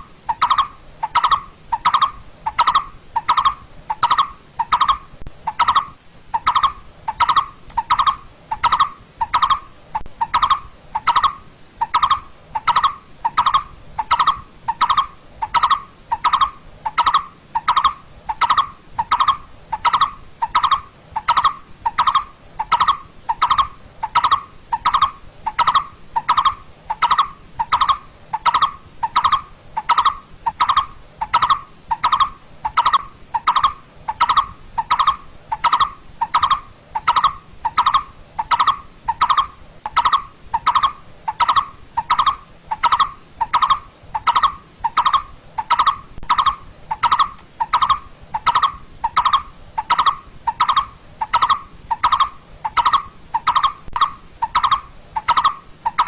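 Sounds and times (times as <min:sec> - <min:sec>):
bird calling hollow tuk notes: 0:00.0 - 0:56.0.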